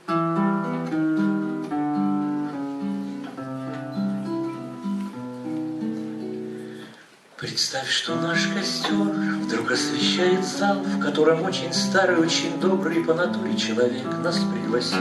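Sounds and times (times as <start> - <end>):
acoustic guitar picking and chords: 0.0 - 15.0.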